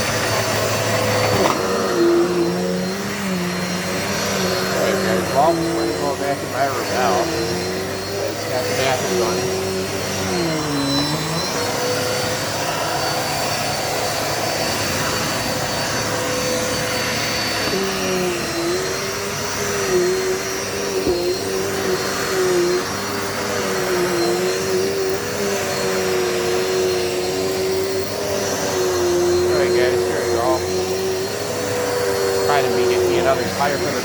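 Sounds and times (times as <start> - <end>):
low wavering motor whine: 0.0 - 34.0
vacuum cleaner whirring: 0.0 - 34.0.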